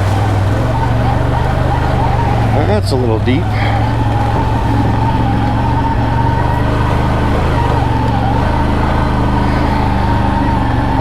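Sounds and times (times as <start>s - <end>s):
atv engine running: 0.0s - 11.0s
steady whine: 0.0s - 11.0s.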